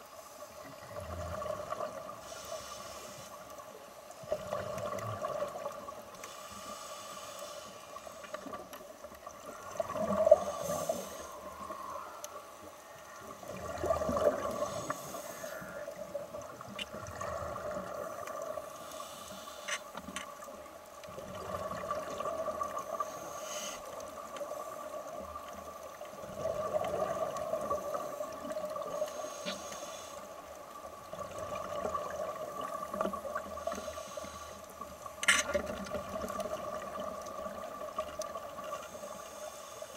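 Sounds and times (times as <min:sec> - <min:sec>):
underwater two-tone hum: 0:00.0 - 0:39.9
water swishing and bubbling: 0:00.0 - 0:39.9
faint clicks: 0:01.0 - 0:39.9.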